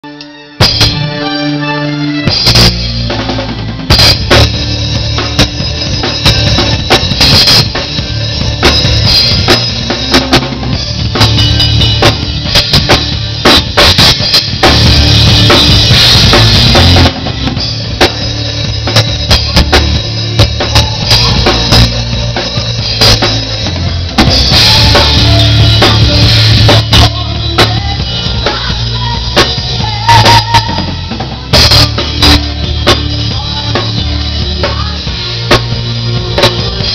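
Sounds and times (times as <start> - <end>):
drum kit playing: 0.0 - 36.9
low bass notes: 0.6 - 36.9.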